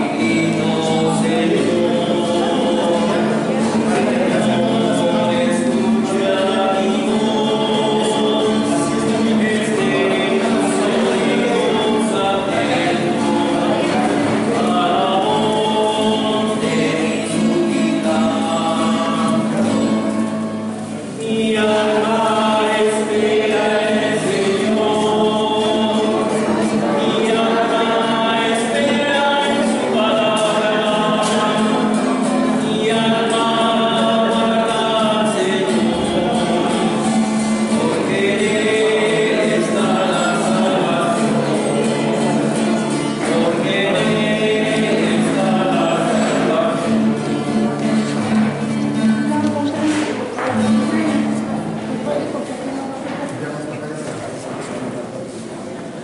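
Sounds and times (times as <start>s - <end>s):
group singing a hymn: 0.0s - 52.0s
acoustic guitar: 0.0s - 56.0s.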